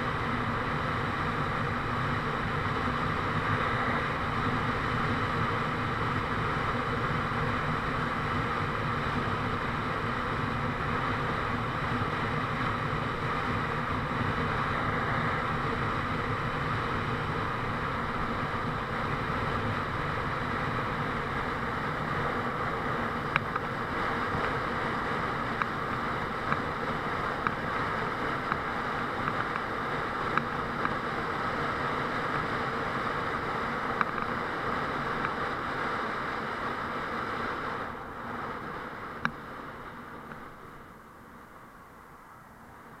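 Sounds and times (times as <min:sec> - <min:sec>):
motorcycle engine running: 0:00.0 - 0:37.2.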